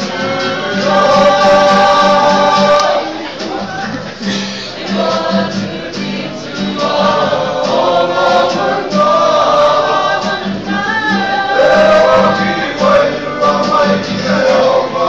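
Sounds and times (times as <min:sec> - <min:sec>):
choir of young people singing: 0:00.0 - 0:15.0.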